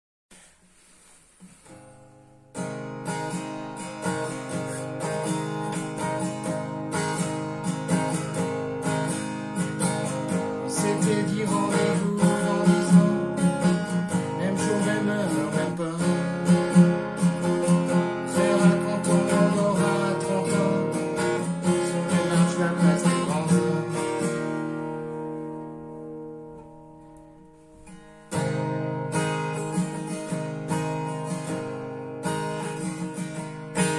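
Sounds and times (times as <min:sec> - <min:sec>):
acoustic guitar strumming: 0:00.3 - 0:33.9.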